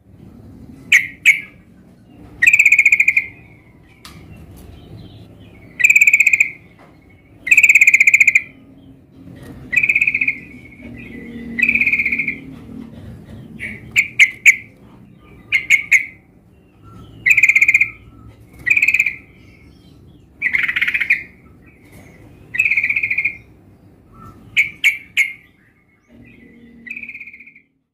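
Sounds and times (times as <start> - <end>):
bird calling with trilled notes: 0.8 - 27.9.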